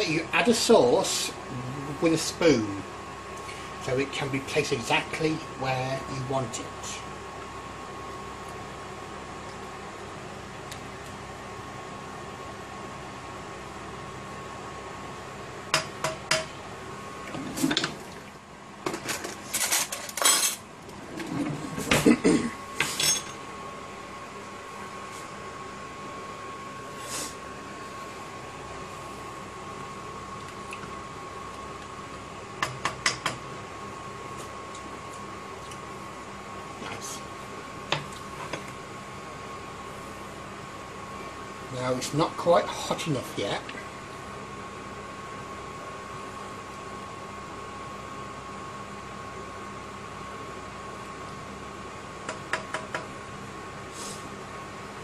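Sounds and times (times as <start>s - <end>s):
faint background hum: 0.0s - 55.0s.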